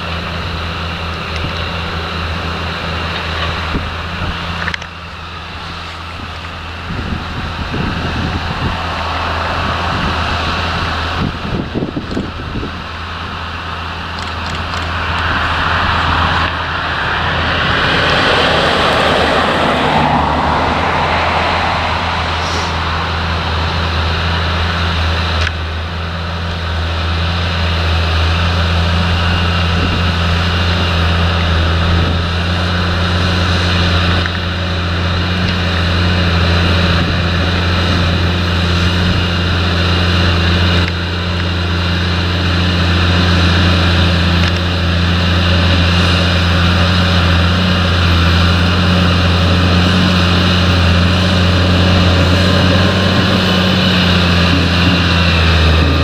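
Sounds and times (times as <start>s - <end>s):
rushing noise: 0.0s - 56.0s
tractor diesel engine droning: 0.0s - 56.0s.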